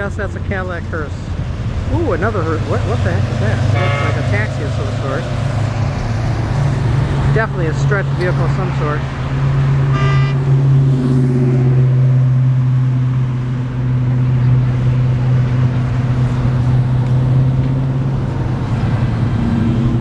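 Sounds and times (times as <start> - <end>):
car engines passing: 0.0 - 20.0.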